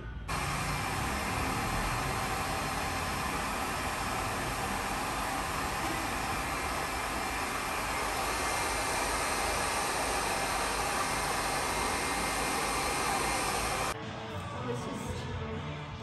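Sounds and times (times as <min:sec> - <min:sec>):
hair dryer running: 0:00.3 - 0:14.0.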